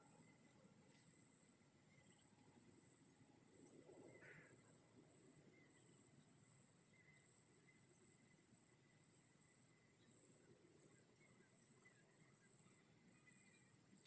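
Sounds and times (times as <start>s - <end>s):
insect chirping trill: 0.0s - 14.0s.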